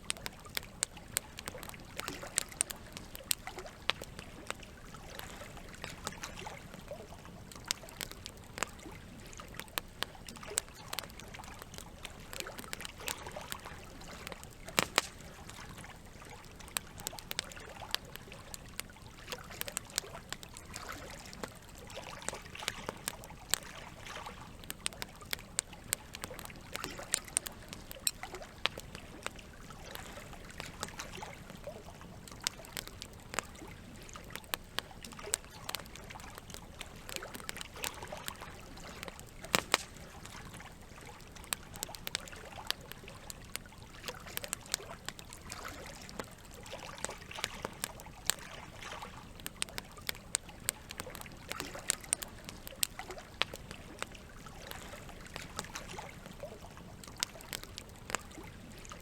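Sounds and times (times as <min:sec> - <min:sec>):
campfire crackling and popping: 0:00.0 - 0:59.0
running water trickling: 0:00.0 - 0:59.0.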